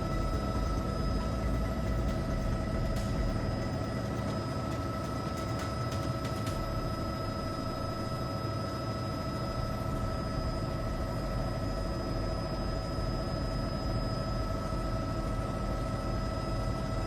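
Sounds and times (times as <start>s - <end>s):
helicopter droning with whine: 0.0s - 17.0s.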